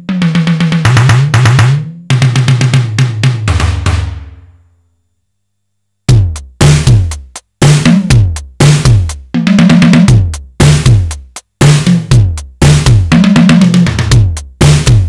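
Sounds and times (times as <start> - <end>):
electronic drum patterns: 0.0 - 4.5, 6.1 - 15.0.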